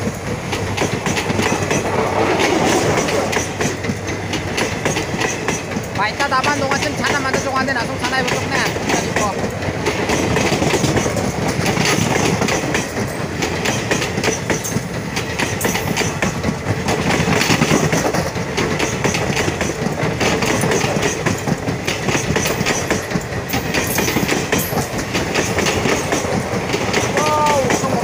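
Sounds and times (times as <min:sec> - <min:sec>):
train rushing past: 0:00.0 - 0:28.0
train wheels clicking on rails: 0:00.0 - 0:28.0.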